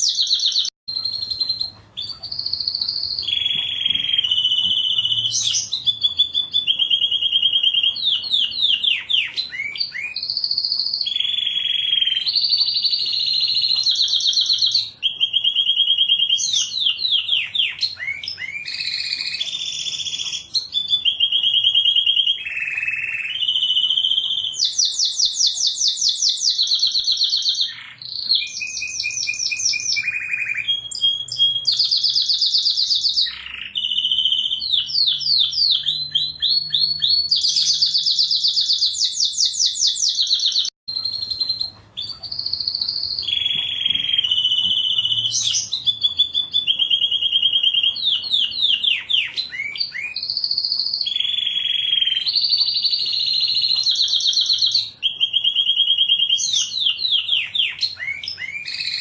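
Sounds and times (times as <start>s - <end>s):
canary singing rapid trills: 0.0s - 59.0s.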